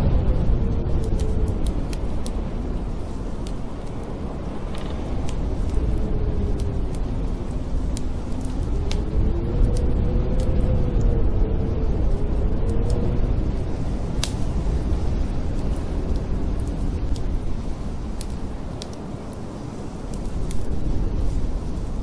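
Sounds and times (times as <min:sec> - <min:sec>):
howling snowstorm wind: 0:00.0 - 0:22.0
wood fire crackling: 0:00.0 - 0:22.0.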